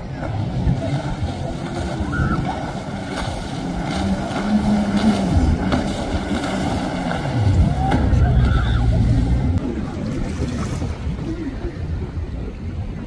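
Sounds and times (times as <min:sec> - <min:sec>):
watercraft engine drone: 0:00.0 - 0:13.0.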